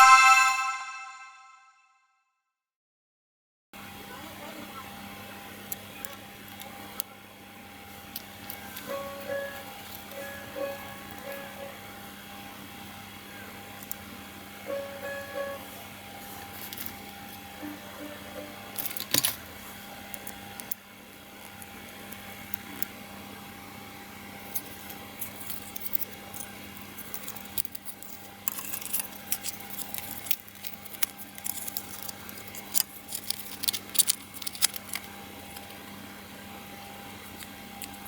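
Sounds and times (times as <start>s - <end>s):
faint electrical hum: 4.5s - 38.0s.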